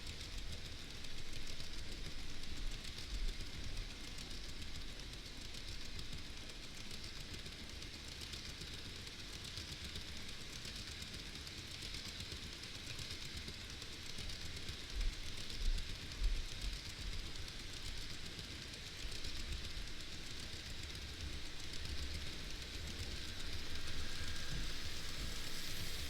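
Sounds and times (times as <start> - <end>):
model train running on track: 0.0 - 26.0.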